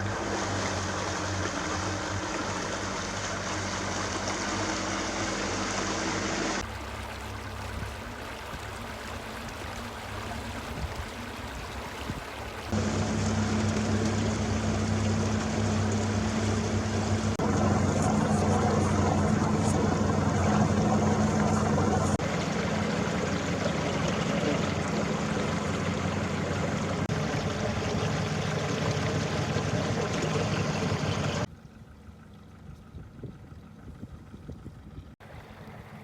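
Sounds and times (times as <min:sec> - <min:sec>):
rushing water: 0:00.0 - 0:31.5, 0:35.2 - 0:36.0
outboard motor running: 0:00.0 - 0:36.0.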